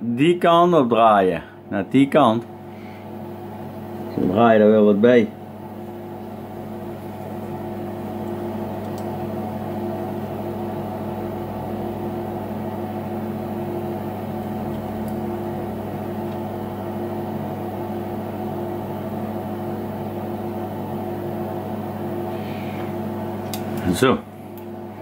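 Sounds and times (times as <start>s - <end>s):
machine motor humming: 2.2s - 25.0s.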